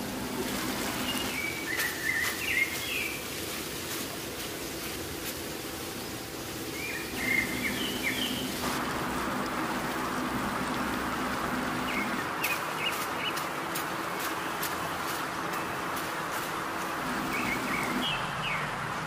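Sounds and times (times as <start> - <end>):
birds chirping: 0.0 - 19.0
steady hiss: 0.0 - 19.0.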